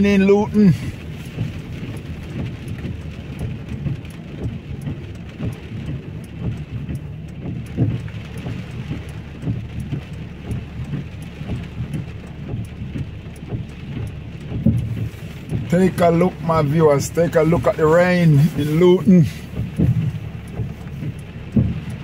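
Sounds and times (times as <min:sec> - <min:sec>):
heavy rain splashing: 0:00.0 - 0:22.0.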